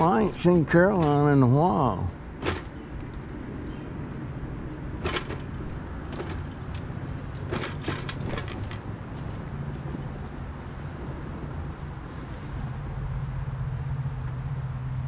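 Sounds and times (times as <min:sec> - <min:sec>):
scooter clicks and rattles: 0:00.0 - 0:12.5
mobility scooter motor hum: 0:00.0 - 0:14.6.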